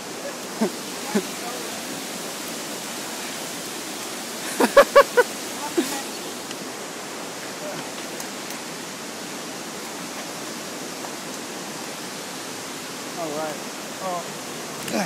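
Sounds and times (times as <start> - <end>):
creek water rushing: 0.0 - 15.0
waterfall: 0.0 - 15.0.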